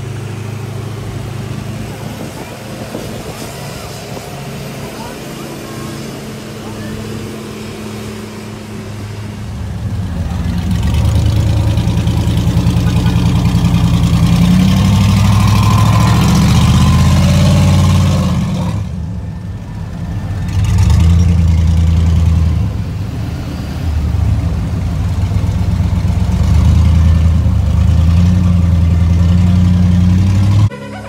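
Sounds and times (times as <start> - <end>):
truck engines revving: 0.0 - 31.0.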